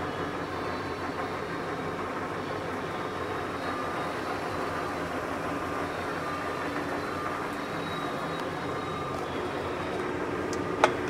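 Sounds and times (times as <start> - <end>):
faint whine: 0.0 - 11.0
lathe motor humming: 0.0 - 11.0.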